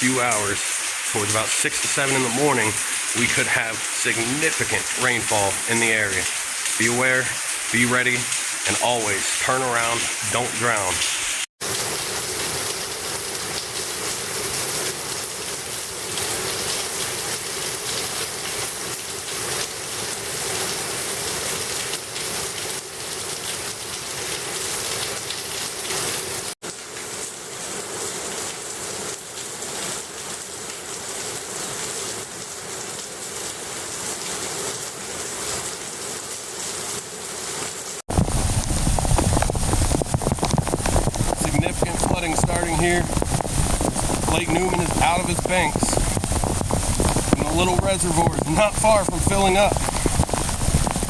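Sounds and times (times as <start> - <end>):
heavy rain: 0.0 - 51.0.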